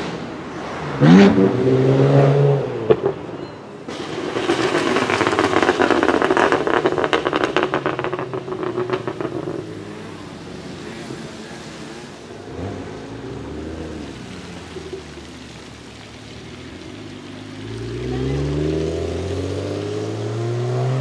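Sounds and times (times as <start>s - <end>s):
car engine drone: 0.0s - 21.0s
exhaust crackling and popping: 3.9s - 21.0s.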